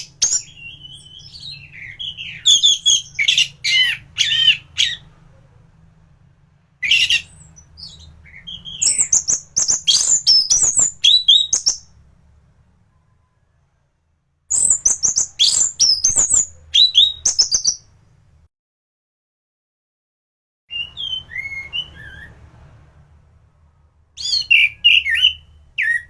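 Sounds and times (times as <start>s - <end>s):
faint low hum: 0.0s - 18.5s, 20.7s - 26.0s.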